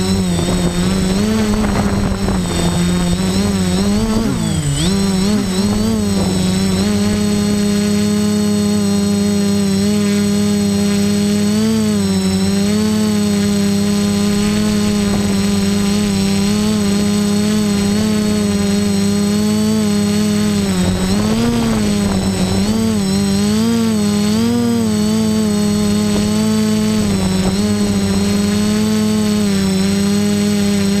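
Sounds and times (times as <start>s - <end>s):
quadcopter motors buzzing: 0.0s - 31.0s.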